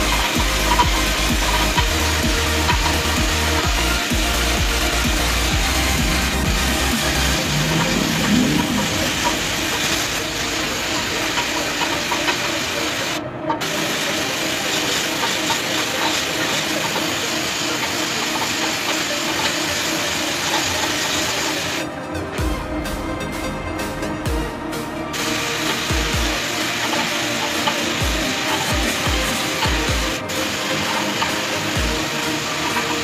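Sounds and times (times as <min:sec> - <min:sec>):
air spray gun hissing: 0:00.0 - 0:21.8, 0:25.0 - 0:33.0.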